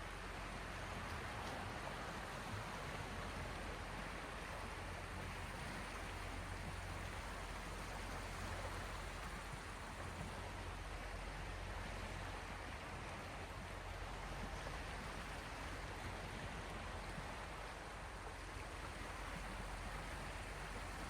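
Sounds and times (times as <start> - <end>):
sea waves washing: 0.0 - 21.0.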